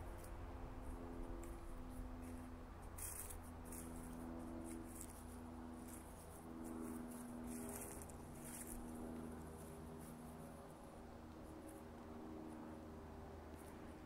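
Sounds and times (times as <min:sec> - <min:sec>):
footsteps crunching on dry leaves: 0:00.0 - 0:11.8
faint hum: 0:00.0 - 0:14.0.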